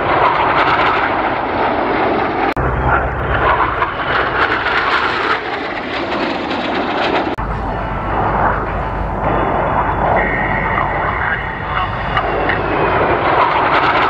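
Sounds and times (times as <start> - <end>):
jet fighters roaring past: 0.0 - 14.0.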